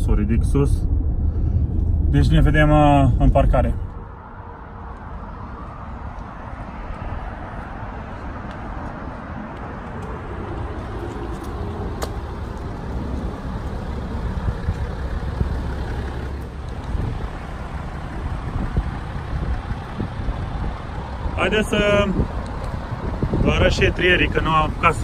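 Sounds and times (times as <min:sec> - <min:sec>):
diesel car engine and tyres: 0:00.0 - 0:25.0.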